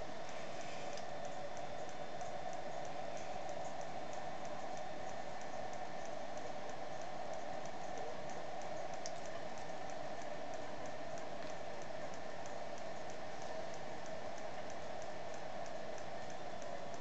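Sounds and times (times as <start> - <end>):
steady hum and hiss: 0.0 - 17.0
faint high ticks: 0.2 - 17.0.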